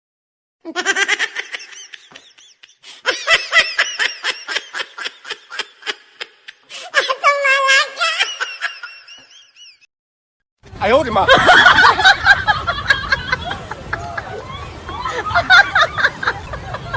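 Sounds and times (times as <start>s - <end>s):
high-pitched laughter: 0.7s - 9.8s, 11.3s - 16.9s.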